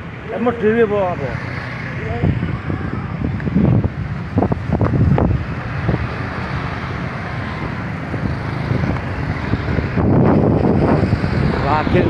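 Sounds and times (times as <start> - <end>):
road traffic passing: 0.0 - 12.0
wind on microphone: 1.9 - 12.0.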